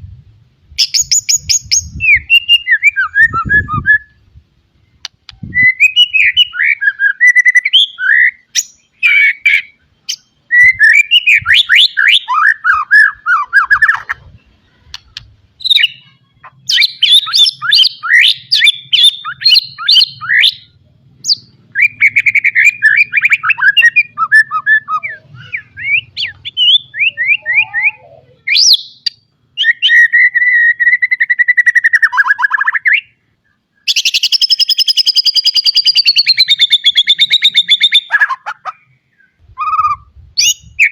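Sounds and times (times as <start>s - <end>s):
songbird singing whistles and trills: 0.7s - 40.9s.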